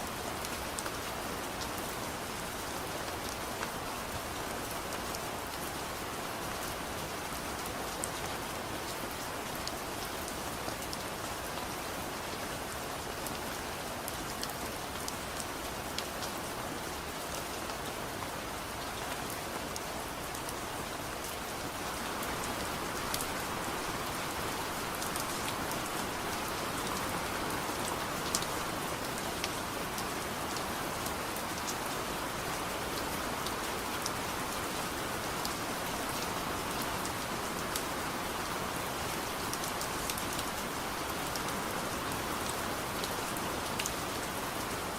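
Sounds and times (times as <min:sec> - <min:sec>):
soft rain falling: 0:00.0 - 0:44.9.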